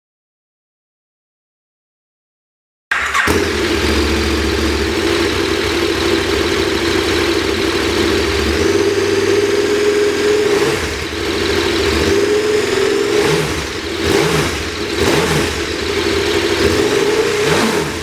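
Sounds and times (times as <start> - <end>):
motorcycle engine running: 2.9 - 18.0.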